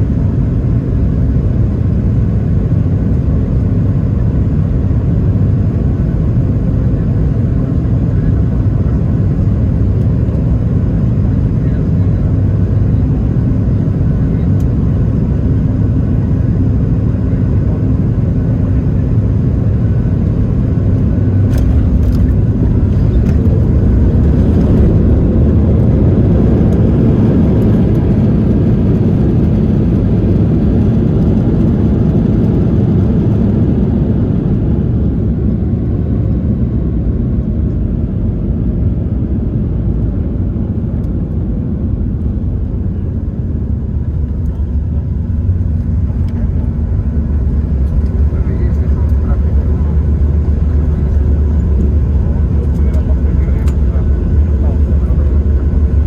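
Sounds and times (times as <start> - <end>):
jet airliner landing rumble: 0.0 - 56.0.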